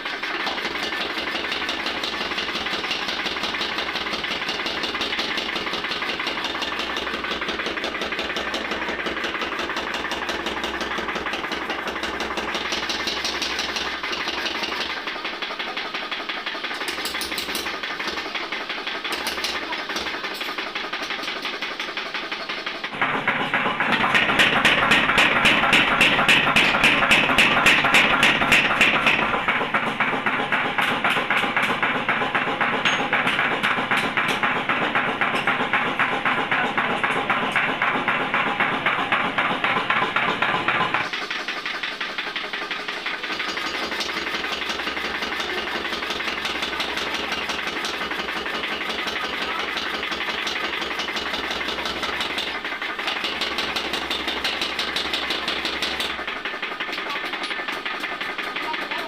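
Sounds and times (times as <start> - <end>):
power hammer beating steel: 0.6 - 59.0.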